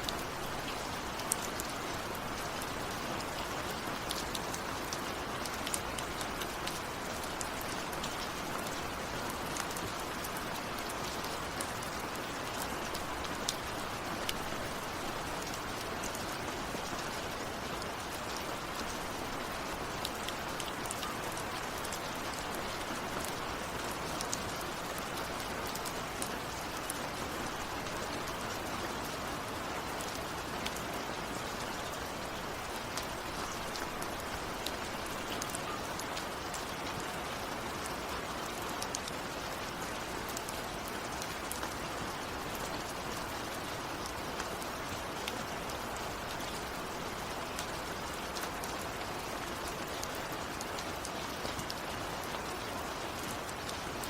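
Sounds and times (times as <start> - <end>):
raindrops ticking on a surface: 0.0 - 54.0
steady rainfall: 0.0 - 54.0.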